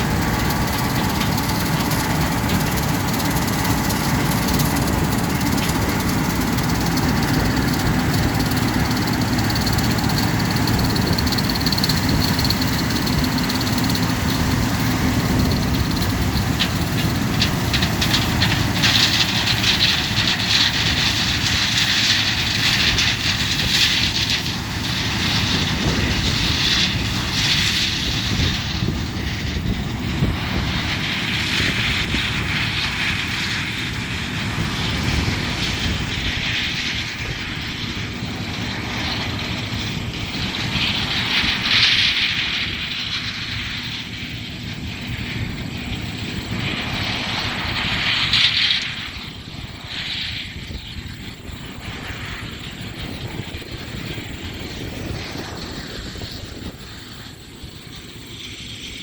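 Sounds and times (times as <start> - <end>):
combine harvester engine rumble: 0.0 - 59.0.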